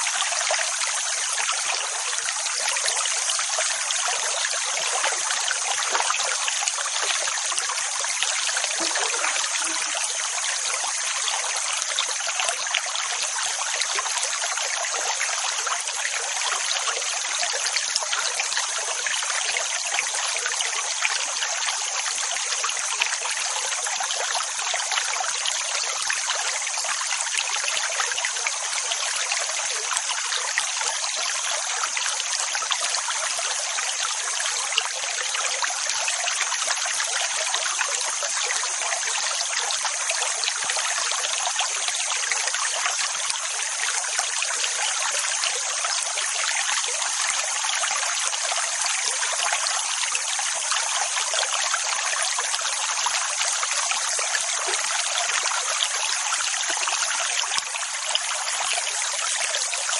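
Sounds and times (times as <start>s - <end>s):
rushing trickling water: 0.0s - 59.9s.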